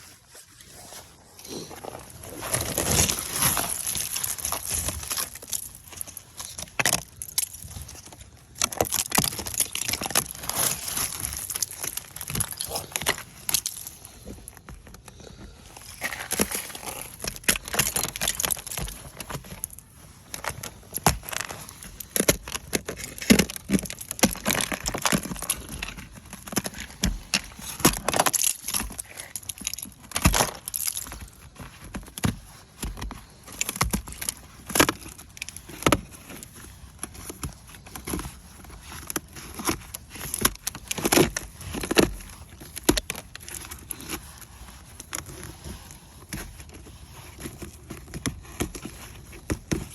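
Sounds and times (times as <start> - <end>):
ice scraping and cracking: 0.0 - 49.9.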